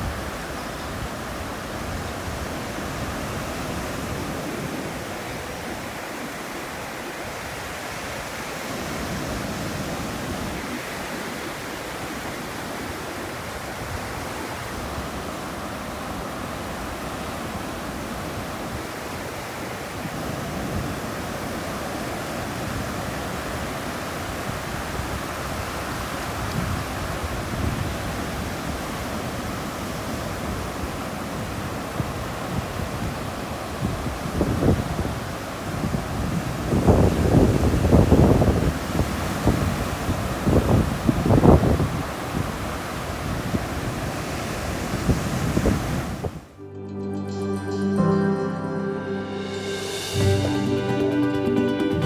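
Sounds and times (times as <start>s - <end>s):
water rushing: 0.0s - 46.6s.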